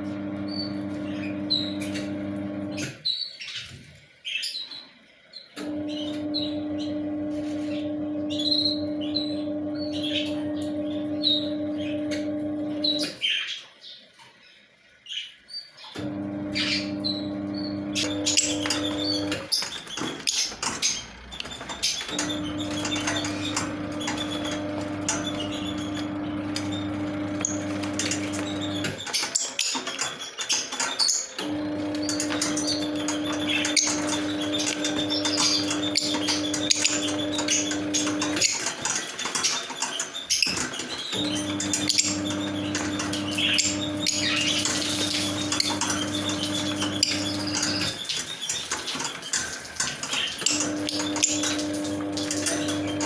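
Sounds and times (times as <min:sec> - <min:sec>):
low mechanical hum: 0:00.0 - 0:03.1, 0:05.6 - 0:13.3, 0:15.9 - 0:30.1, 0:31.0 - 0:53.0
lovebirds chirping: 0:00.0 - 0:53.0.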